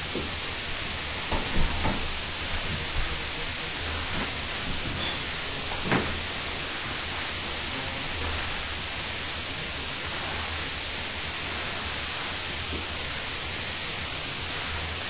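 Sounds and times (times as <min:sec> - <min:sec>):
recording hiss and hum: 0:00.0 - 0:15.0.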